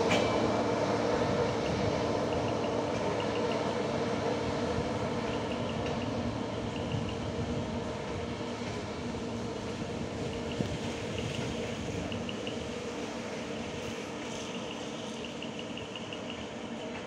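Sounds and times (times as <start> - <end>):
diesel engine hum: 0.0 - 17.0
train rolling rumble: 0.0 - 17.0.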